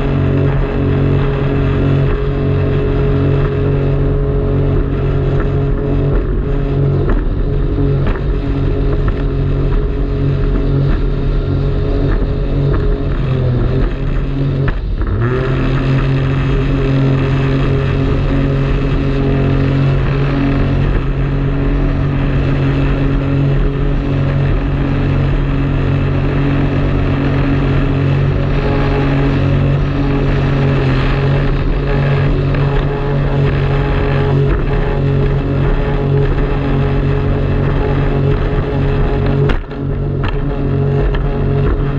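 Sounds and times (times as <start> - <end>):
jet ski engine droning: 0.0 - 41.9.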